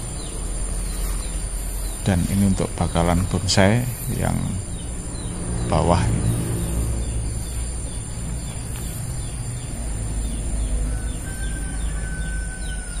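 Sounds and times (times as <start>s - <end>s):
faint bird chirps: 0.0s - 13.0s
low rumbling noise: 0.0s - 13.0s.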